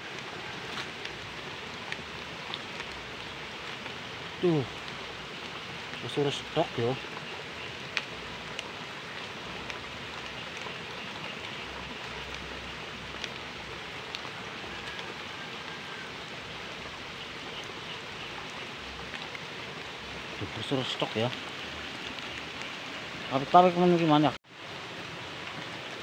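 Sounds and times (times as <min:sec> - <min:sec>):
stream running among rocks: 0:00.0 - 0:26.0.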